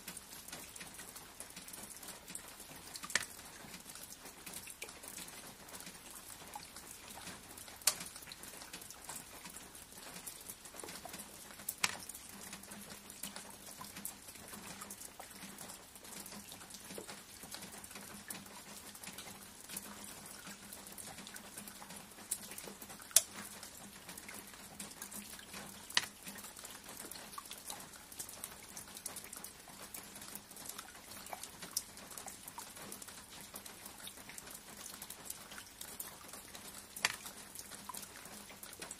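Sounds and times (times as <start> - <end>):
rain hiss: 0.0 - 38.9
sharp drips: 0.0 - 38.9.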